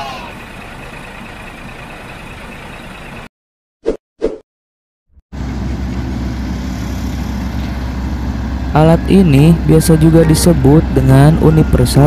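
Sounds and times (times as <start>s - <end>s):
road roller engine humming: 0.0s - 3.3s, 5.4s - 12.0s.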